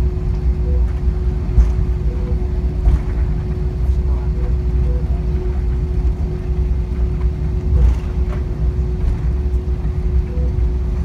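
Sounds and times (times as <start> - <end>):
jet engines idling low rumble: 0.0 - 11.0.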